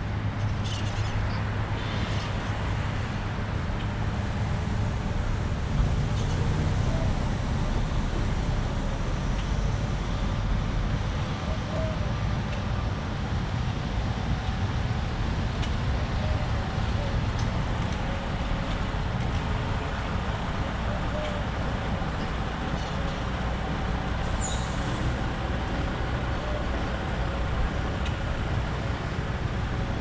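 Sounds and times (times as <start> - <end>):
passing car traffic rumble: 0.0 - 30.0.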